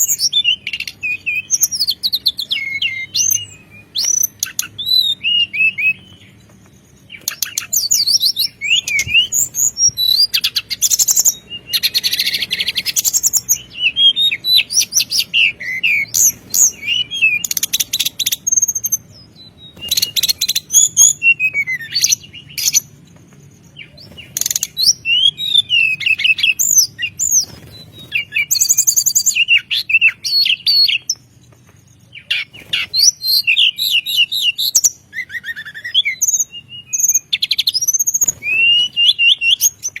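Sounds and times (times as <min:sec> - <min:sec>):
songbirds singing: 0:00.0 - 0:40.0.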